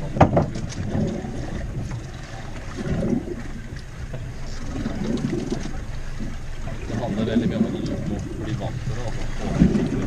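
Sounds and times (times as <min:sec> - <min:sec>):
sea: 0:00.0 - 0:10.0
wind: 0:00.0 - 0:10.0.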